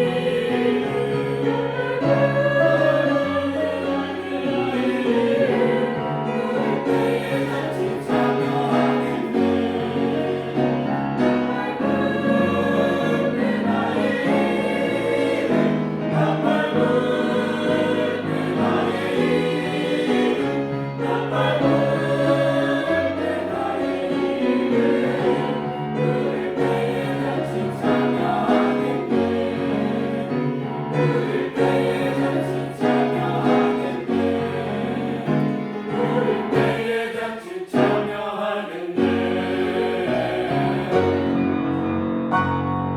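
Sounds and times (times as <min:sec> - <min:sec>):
church choir singing a hymn: 0:00.0 - 0:42.9.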